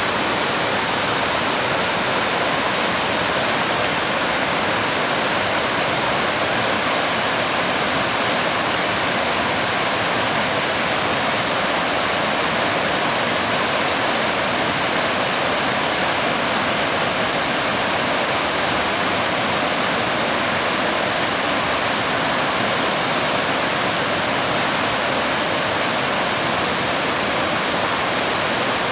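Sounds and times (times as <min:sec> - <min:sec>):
water rushing over rocks: 0:00.0 - 0:28.9.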